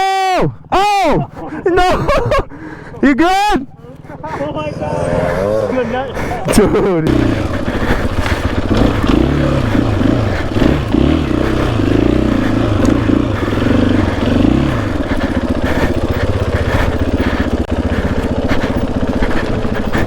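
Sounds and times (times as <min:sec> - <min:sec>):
dirt bike engine revving: 0:03.9 - 0:20.0.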